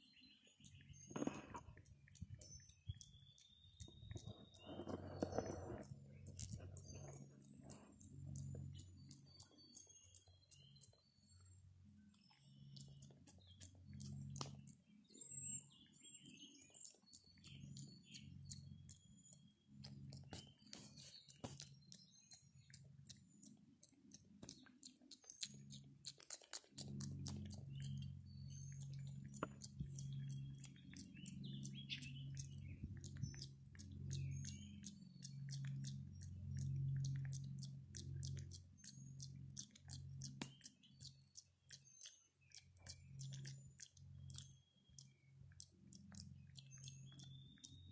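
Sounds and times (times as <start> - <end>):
low hum: 0.0 - 47.9
monkey mouth wet clicks: 0.6 - 47.9.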